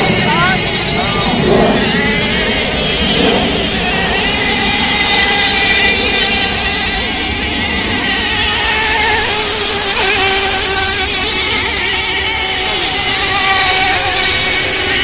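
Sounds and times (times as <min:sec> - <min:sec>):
model boat motors wavering: 0:00.0 - 0:15.0.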